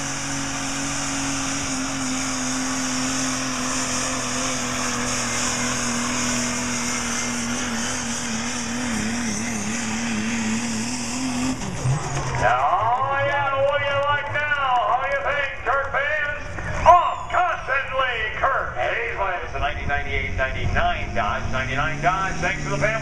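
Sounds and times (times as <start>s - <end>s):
diesel truck engine at full throttle: 0.0s - 23.0s.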